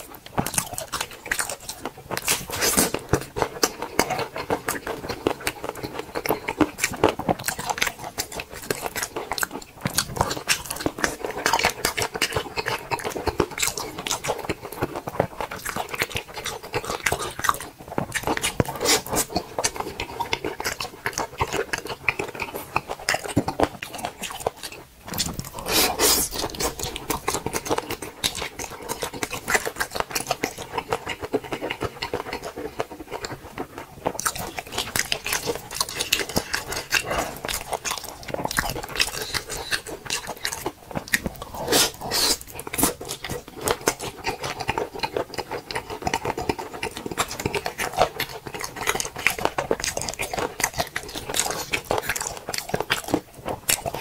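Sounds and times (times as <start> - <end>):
person chewing with smacks: 0.0 - 54.0.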